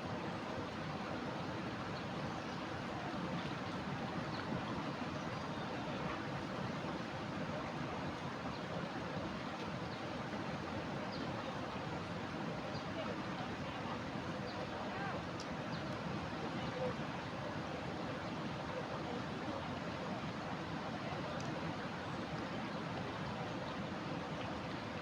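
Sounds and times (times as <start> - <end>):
flooded river rushing: 0.0 - 25.0.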